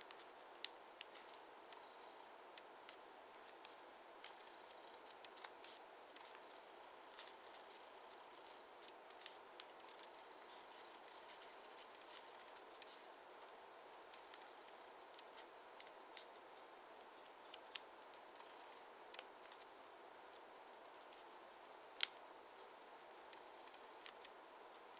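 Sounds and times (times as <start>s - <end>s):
low background hiss: 0.0s - 24.9s
paper crinkling and clicking: 0.1s - 1.9s, 2.5s - 16.4s, 17.0s - 19.7s, 22.0s - 24.4s.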